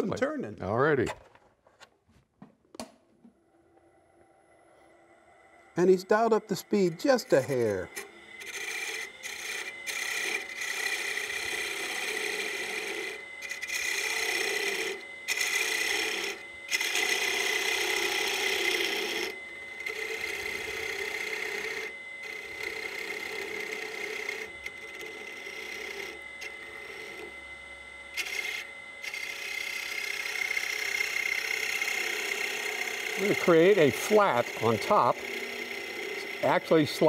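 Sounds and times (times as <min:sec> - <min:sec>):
wood lathe whine: 0:00.0 - 0:01.1, 0:03.3 - 0:37.0
gouge scraping spinning wood: 0:05.8 - 0:37.0.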